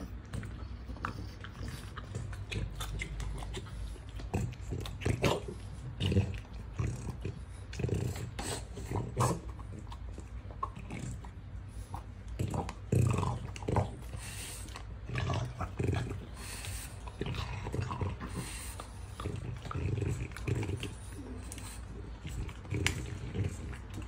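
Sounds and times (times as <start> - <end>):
dog gnawing on a bone: 0.0 - 24.0.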